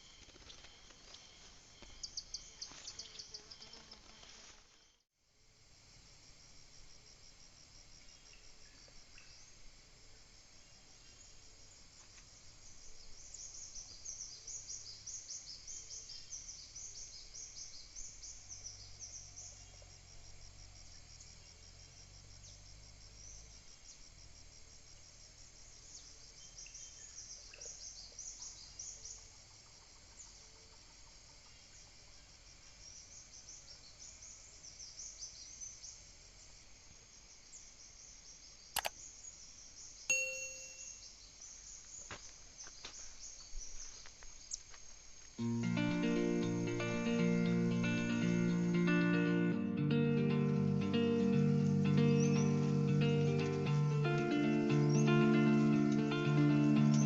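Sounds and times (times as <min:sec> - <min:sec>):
insect chirring: 0:06.7 - 0:57.0.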